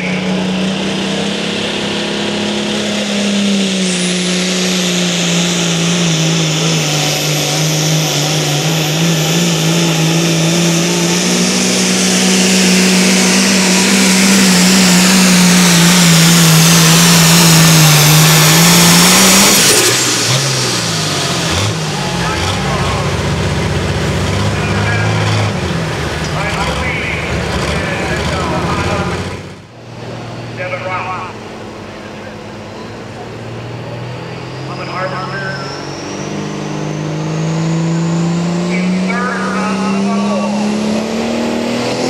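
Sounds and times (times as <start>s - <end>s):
tractor engine running flat out: 0.0s - 41.1s
high whine: 0.0s - 41.8s.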